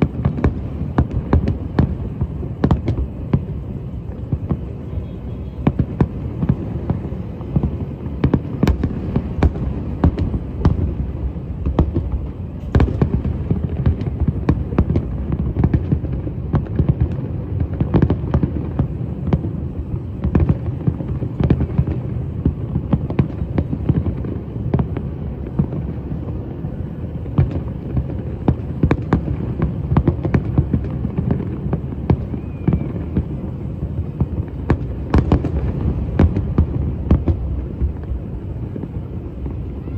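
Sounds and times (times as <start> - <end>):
fireworks bursts rumbling: 0.0 - 39.9
fireworks sharp cracks: 0.0 - 39.9.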